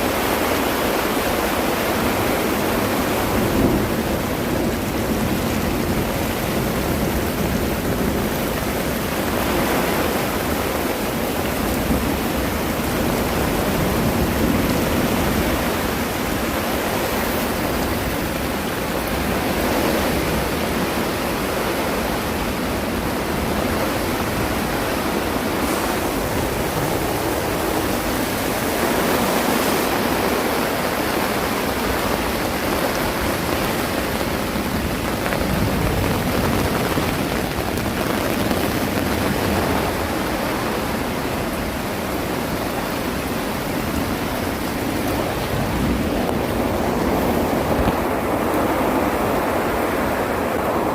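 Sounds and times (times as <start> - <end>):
heavy rain: 0.0 - 50.9
strong wind: 0.0 - 50.9.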